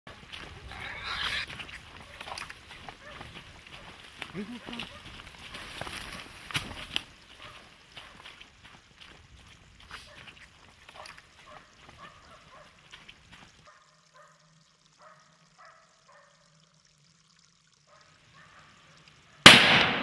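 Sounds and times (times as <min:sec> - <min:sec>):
faint rustles and ticks: 0:00.2 - 0:19.2.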